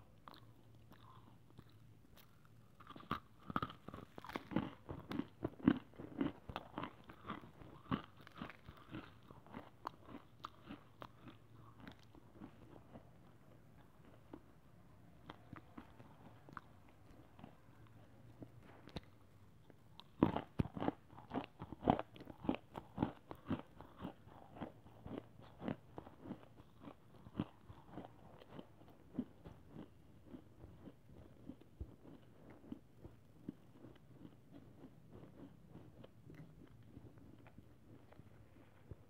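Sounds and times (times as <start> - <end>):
person chewing crunchy clay: 0.0 - 39.0.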